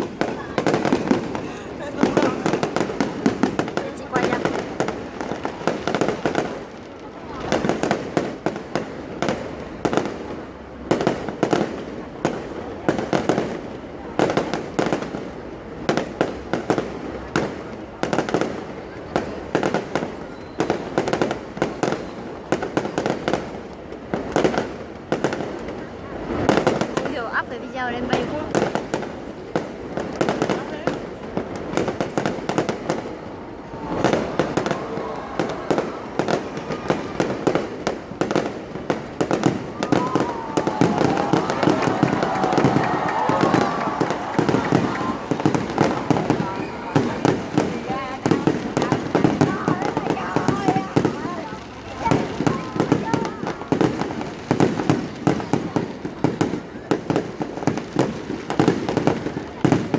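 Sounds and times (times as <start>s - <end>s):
fireworks banging: 0.0s - 59.9s
fireworks crackling hiss: 0.0s - 59.9s.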